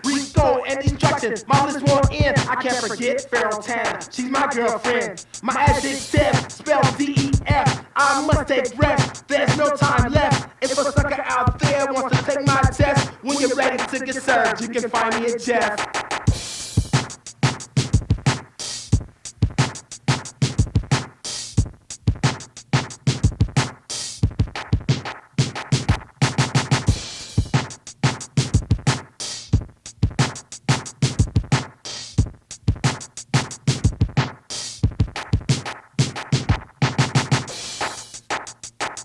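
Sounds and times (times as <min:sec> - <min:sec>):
drum machine beat: 0:00.0 - 0:39.0
turntable scratching: 0:00.0 - 0:39.0.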